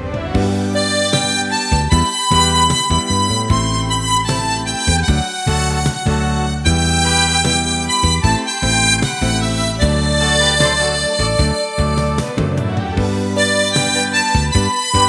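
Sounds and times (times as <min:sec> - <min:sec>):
backing accompaniment with bass: 0:00.0 - 0:15.0
harmonica melody: 0:00.0 - 0:15.0.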